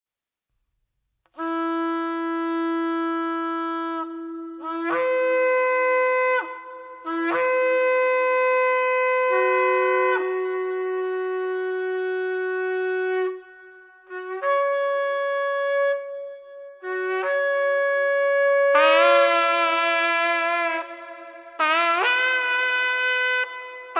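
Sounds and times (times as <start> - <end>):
shofar blasts: 1.4 - 23.9.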